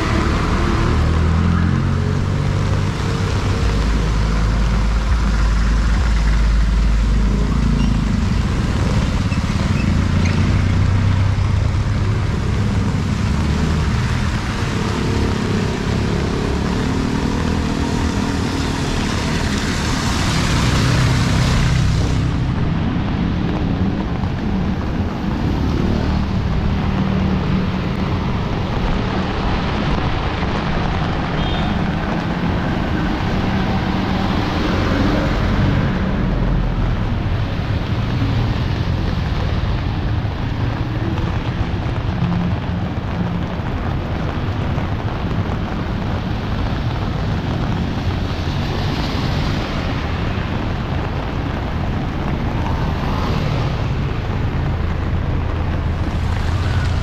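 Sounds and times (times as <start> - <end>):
rain hissing: 0.0 - 57.0
vehicle engines humming: 0.0 - 57.0.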